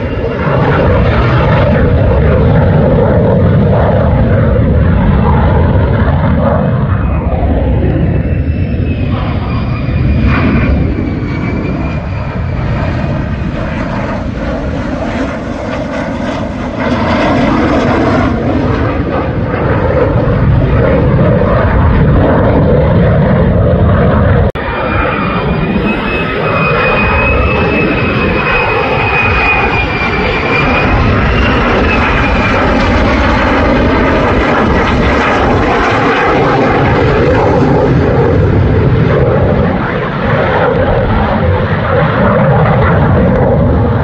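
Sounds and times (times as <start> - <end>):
jet engine roar with high whine: 0.0 - 44.0.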